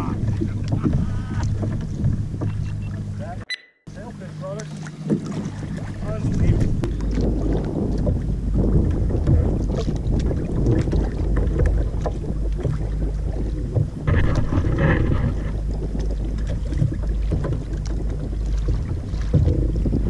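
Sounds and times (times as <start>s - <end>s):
wind buffeting microphone: 0.0s - 3.4s, 4.0s - 20.0s
water slapping against hull: 0.0s - 20.0s.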